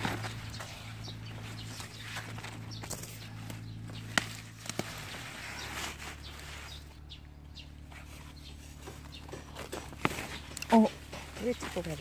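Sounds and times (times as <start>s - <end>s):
leaves and stalks rustling: 0.0s - 12.0s
steady low hum: 0.0s - 12.0s.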